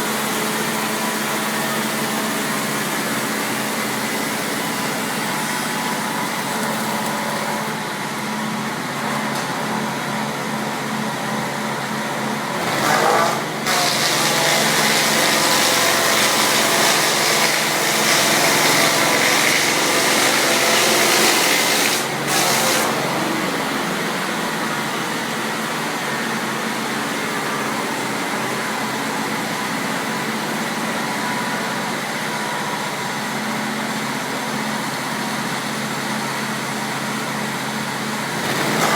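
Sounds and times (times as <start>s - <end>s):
machine cutting log: 0.0s - 38.9s.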